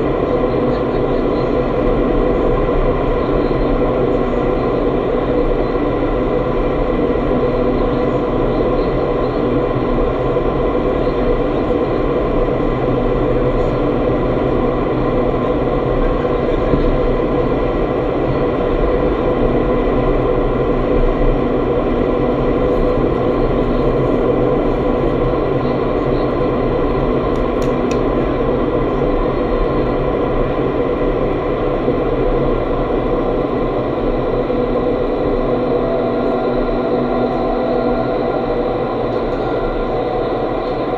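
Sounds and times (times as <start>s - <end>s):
steady hum: 0.0s - 40.9s
wind tunnel airflow rushing: 0.0s - 40.9s.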